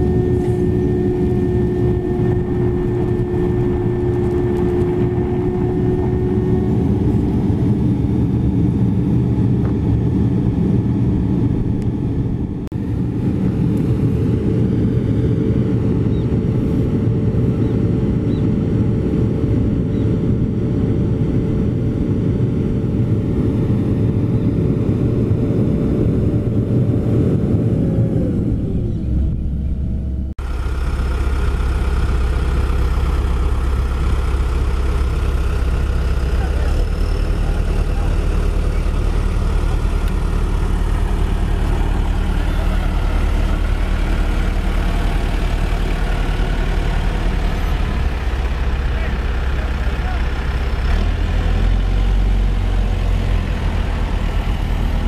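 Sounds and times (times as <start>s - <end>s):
heavy diesel engine idling: 0.0s - 19.2s, 28.5s - 55.0s
road roller diesel engine: 0.0s - 55.0s.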